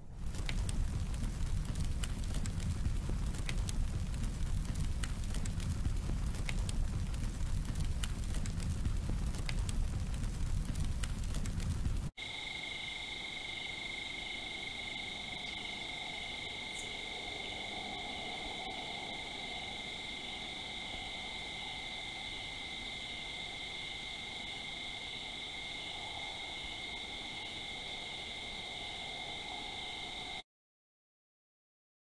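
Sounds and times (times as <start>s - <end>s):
crickets chirring: 0.0s - 30.4s.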